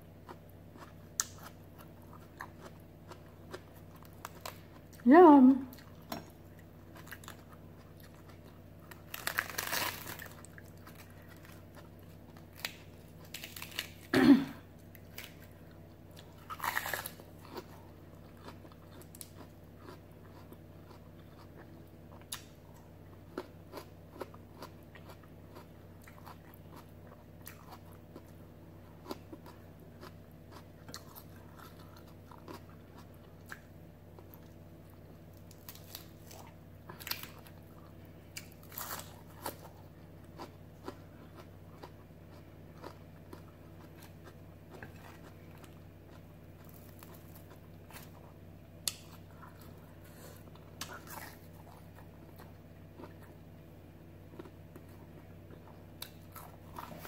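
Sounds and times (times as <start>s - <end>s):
lettuce crunching and chewing: 0.0s - 5.0s, 5.7s - 14.1s, 14.7s - 57.0s.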